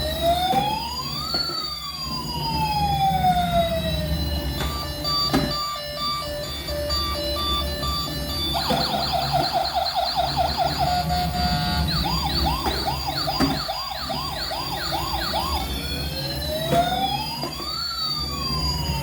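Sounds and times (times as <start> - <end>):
electronic toy siren: 0.0 - 19.0.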